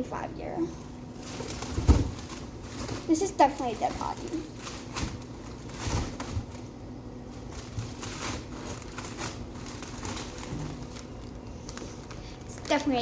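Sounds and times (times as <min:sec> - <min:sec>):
low steady hum: 0:00.0 - 0:13.0
plastic packaging rustling: 0:00.8 - 0:13.0.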